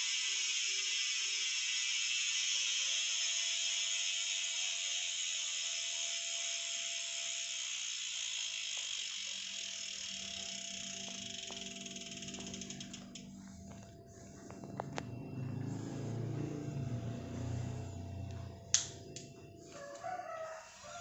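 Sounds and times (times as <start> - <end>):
bike freehub ratchet buzz: 0.0 - 19.9, 20.6 - 21.0.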